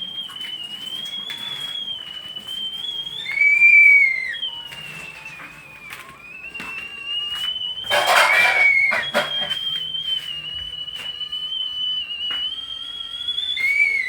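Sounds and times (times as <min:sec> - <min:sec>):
kettle whistling: 0:00.0 - 0:14.0
lower kettle whistle with hiss: 0:00.0 - 0:14.0.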